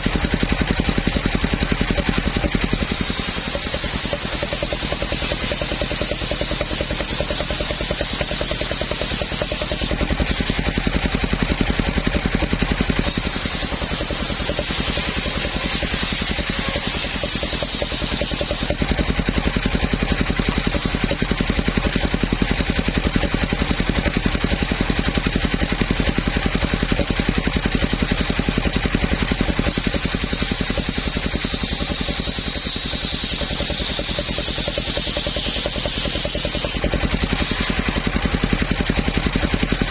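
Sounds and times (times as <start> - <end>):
high saw whine: 0.0 - 39.9
sawmill engine pulsing: 0.0 - 39.9.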